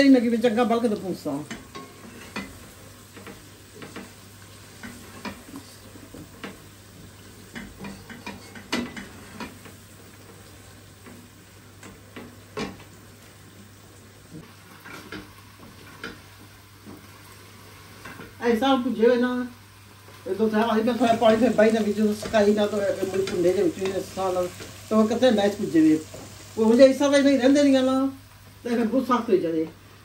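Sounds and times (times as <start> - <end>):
livers sizzling in a pan: 0.0 - 30.0.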